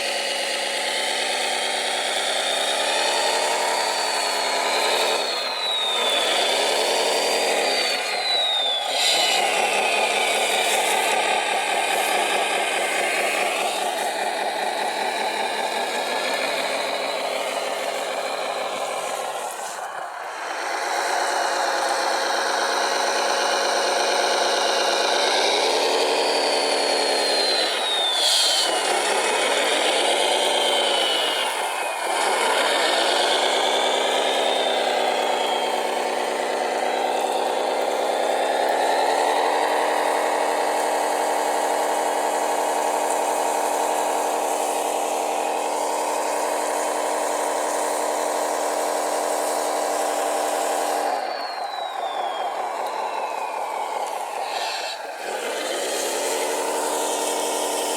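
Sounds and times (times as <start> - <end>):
model machine motor drone: 0.0 - 57.9
thin falling whine: 0.0 - 57.9.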